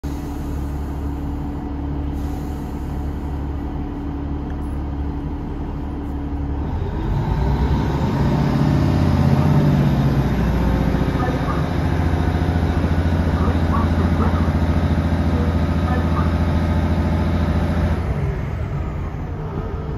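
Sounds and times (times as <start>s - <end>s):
train diesel engines: 0.0s - 19.9s.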